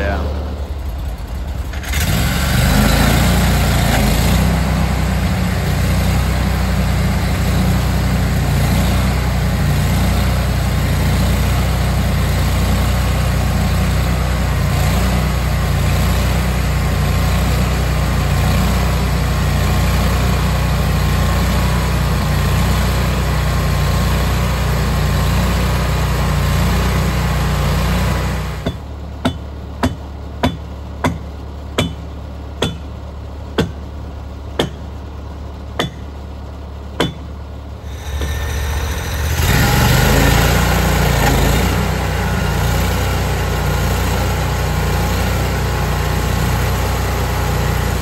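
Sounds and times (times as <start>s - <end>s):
bandsaw mill running: 0.0s - 31.2s, 37.0s - 48.0s.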